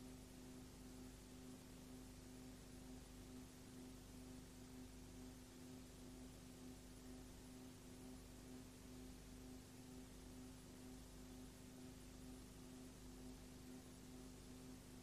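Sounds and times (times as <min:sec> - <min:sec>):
faint steady hum with hiss: 0:00.0 - 0:15.0.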